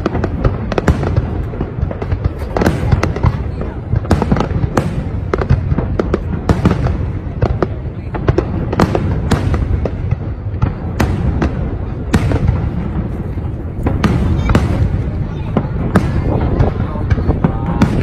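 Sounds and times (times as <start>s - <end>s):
firework bangs and crackles: 0.0s - 18.0s.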